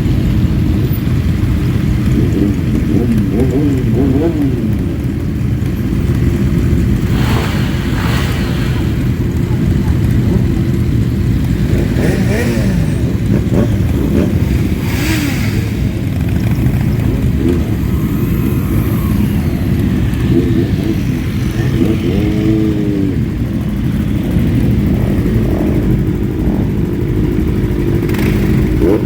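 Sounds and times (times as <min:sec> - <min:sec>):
motorcycle engine revving: 0:00.0 - 0:29.0
motorcycles riding past: 0:00.0 - 0:29.0.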